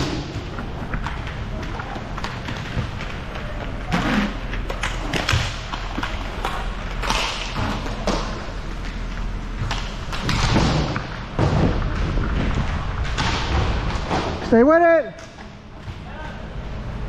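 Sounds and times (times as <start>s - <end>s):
sticks and puck clacking: 0.0s - 14.6s
skate wheels rolling: 0.0s - 17.0s.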